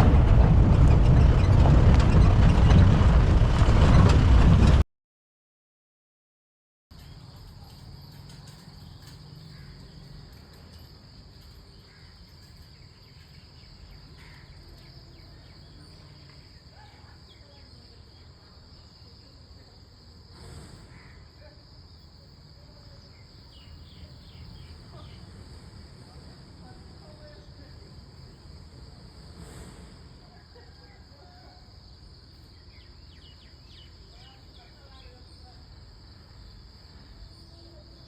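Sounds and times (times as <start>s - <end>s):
high-pitched insect chorus: 7.0s - 38.0s.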